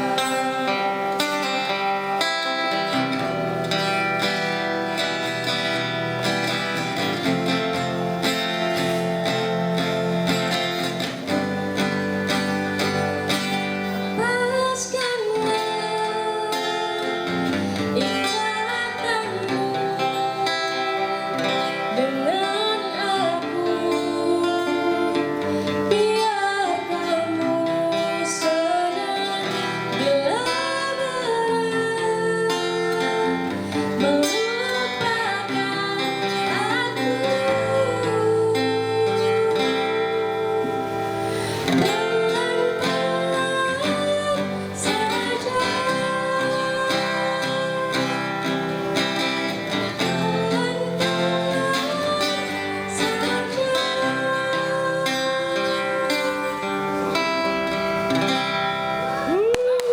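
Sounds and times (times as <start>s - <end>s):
guitar and plucked strings music: 0.0s - 59.9s.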